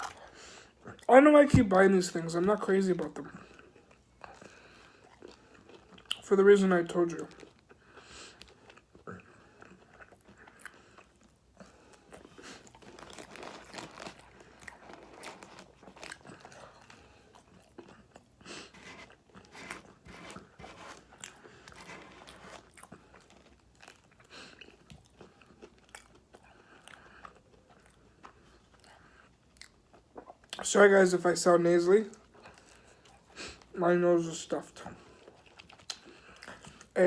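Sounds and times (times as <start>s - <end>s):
person chewing crunchy food: 0.0s - 1.1s, 3.2s - 6.3s, 7.1s - 30.6s, 32.2s - 33.8s, 34.8s - 37.0s.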